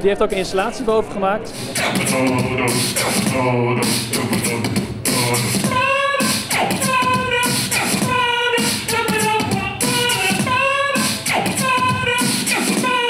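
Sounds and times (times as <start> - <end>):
beatboxing into microphone: 1.5 - 13.0.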